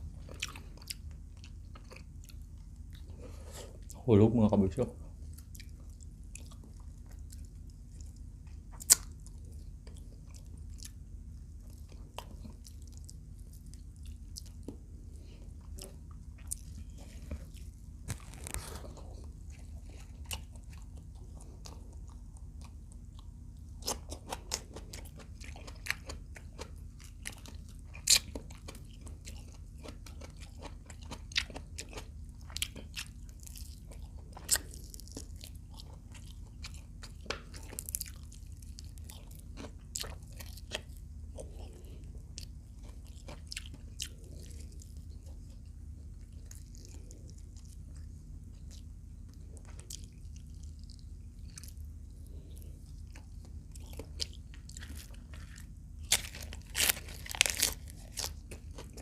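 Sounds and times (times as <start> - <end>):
chewing and crunching food: 0.0 - 59.0
steady low hum: 0.0 - 59.0.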